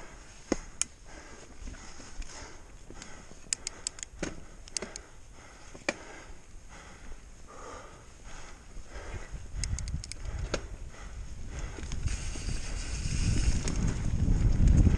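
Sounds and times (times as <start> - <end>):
bike tyres on dirt: 0.0 - 14.9
bike clicks and rattles: 0.3 - 6.9, 8.4 - 14.9.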